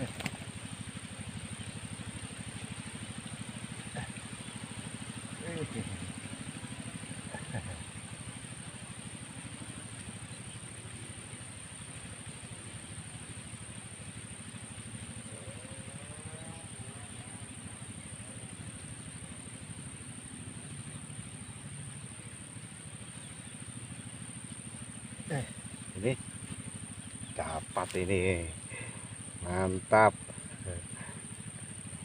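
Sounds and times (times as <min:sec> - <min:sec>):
crickets buzzing: 0:00.0 - 0:32.0.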